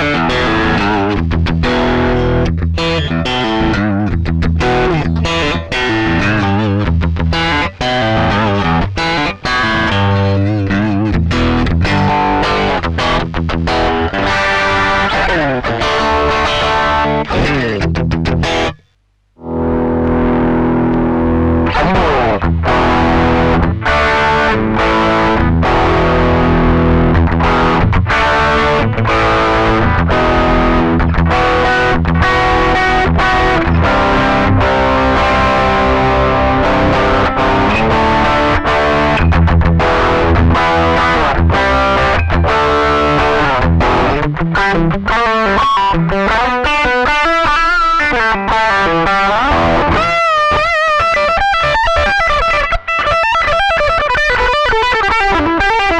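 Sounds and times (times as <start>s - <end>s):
distorted electric guitar: 0.0s - 55.9s.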